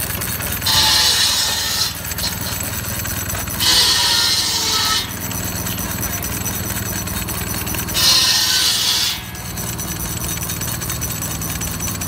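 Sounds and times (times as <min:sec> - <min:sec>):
saw blade cutting wood: 0:00.0 - 0:12.0
steam engine rhythmic beat: 0:00.0 - 0:12.0.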